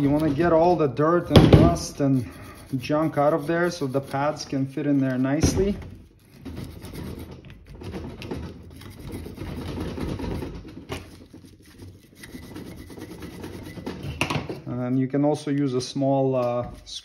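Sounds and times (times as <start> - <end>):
wire brush scrubbing metal: 0.0 - 7.6, 8.6 - 15.5.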